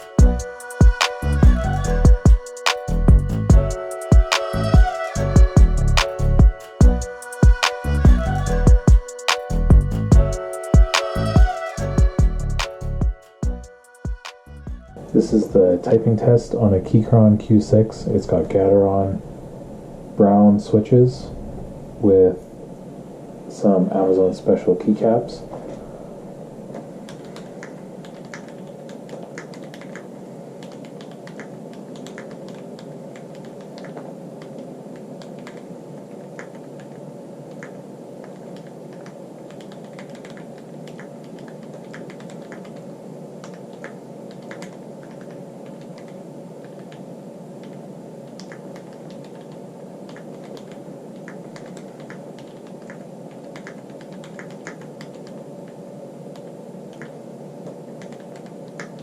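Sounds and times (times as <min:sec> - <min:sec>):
steady background noise: 0:00.0 - 0:59.0.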